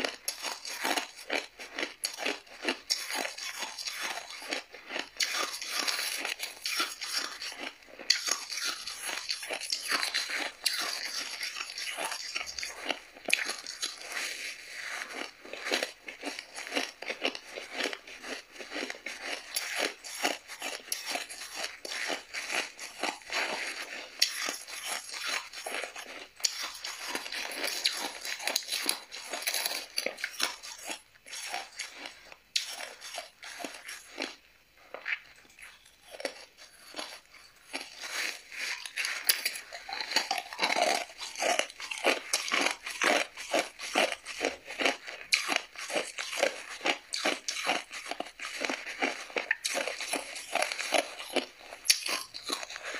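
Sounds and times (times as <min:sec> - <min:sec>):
person crunching ice: 0:00.0 - 0:52.9.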